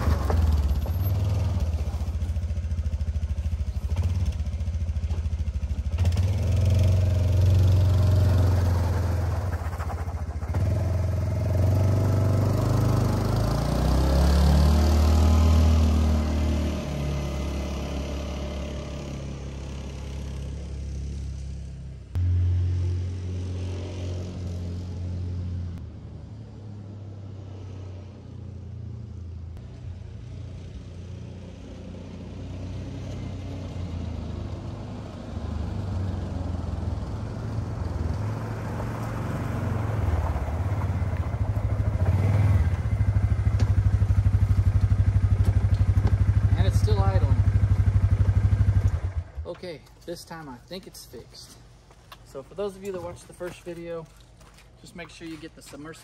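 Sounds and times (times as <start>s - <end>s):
utility vehicle engine humming: 0.0s - 49.5s.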